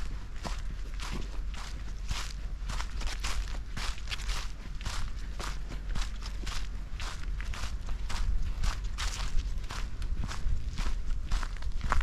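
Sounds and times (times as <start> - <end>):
footsteps crunching through dry leaves: 0.0 - 12.0
low steady rumble: 0.0 - 12.0.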